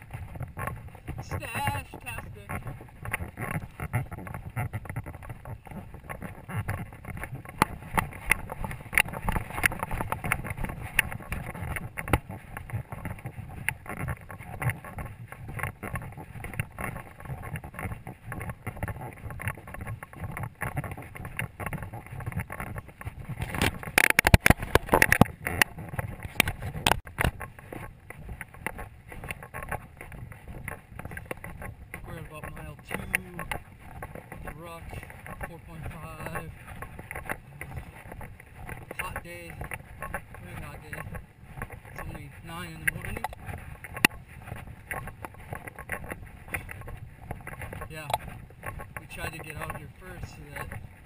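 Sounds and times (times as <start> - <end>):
footsteps and gear rattling: 0.0 - 51.0
wind buffeting microphone: 0.0 - 51.0.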